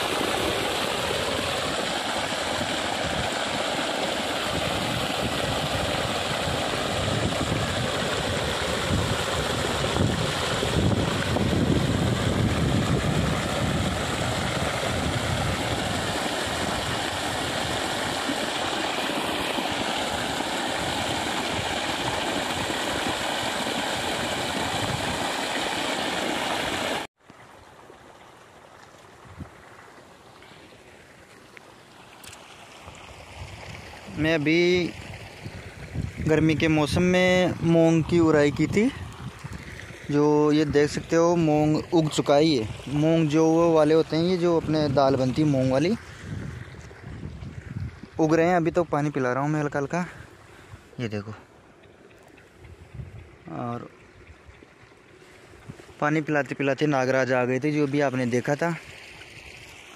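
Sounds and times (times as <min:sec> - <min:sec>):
water gushing onto soil: 0:00.0 - 0:51.3, 0:52.7 - 0:59.9.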